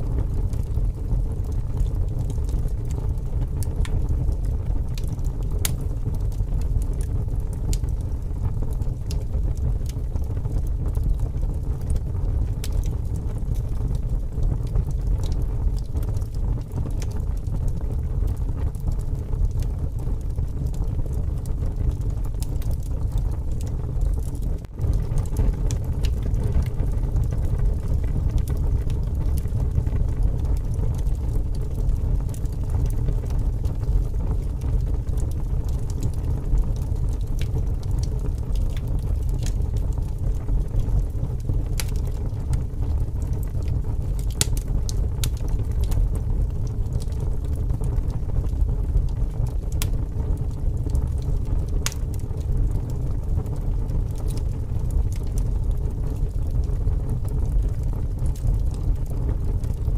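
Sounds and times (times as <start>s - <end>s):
crackles and pops of burning logs: 0.0s - 59.9s.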